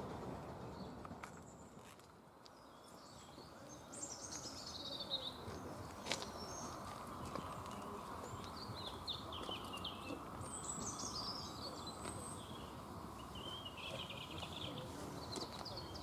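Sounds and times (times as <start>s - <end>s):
outdoor background noise: 0.0s - 16.0s
songbird twittering: 2.6s - 16.0s.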